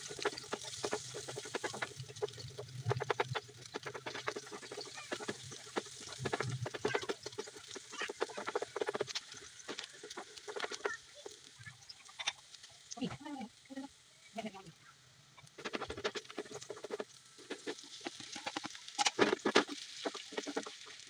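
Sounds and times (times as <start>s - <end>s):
spatula stirring against pan: 0.0s - 12.4s, 15.4s - 21.0s
onion frying in oil: 0.0s - 21.0s.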